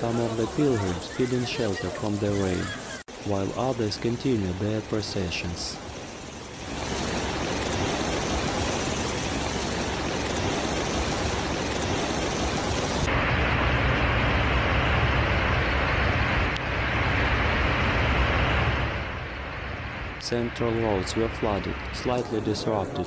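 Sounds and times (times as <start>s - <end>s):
heavy rain falling: 0.0s - 22.5s.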